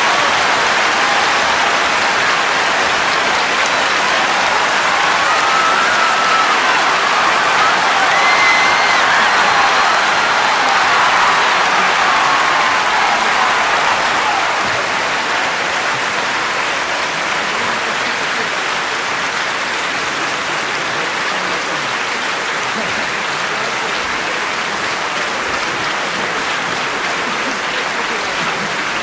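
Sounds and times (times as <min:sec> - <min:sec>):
crowd cheering: 0:00.0 - 0:29.0
hands clapping: 0:00.0 - 0:29.0.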